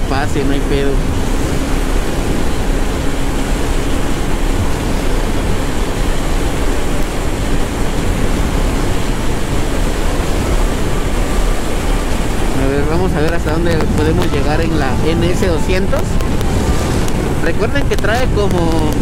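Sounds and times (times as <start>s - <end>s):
faint motorcycle engine hum: 0.0s - 19.0s
wind rush on microphone: 0.0s - 19.0s.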